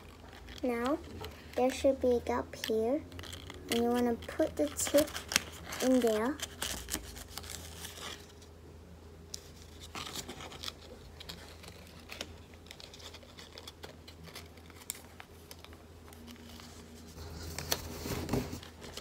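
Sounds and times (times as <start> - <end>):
paper crackles: 0.0 - 8.4, 9.4 - 19.0
paper rustling and creasing: 0.0 - 8.4, 9.4 - 19.0.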